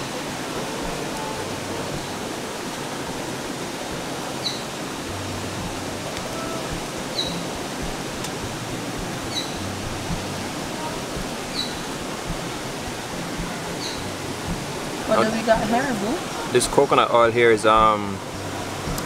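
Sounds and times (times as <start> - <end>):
river water rushing over rocks: 0.0 - 19.0.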